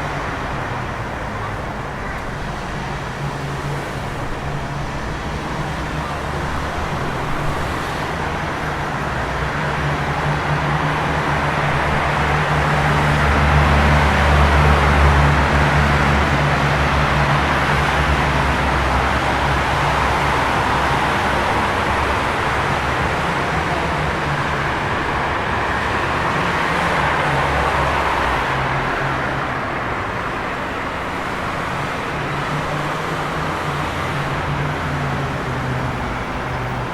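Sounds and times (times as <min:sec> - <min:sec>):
traffic engine and road noise: 0:00.0 - 0:36.9.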